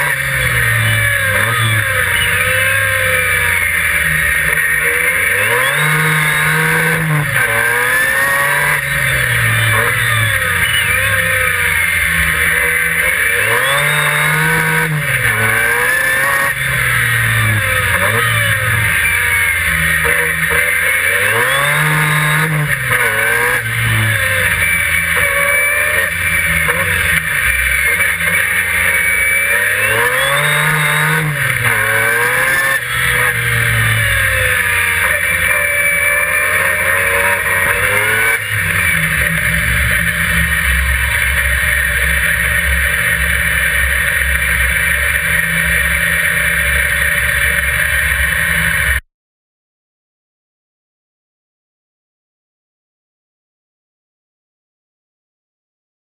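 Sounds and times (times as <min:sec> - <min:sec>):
rotary racing engine revving: 0:00.0 - 0:49.0.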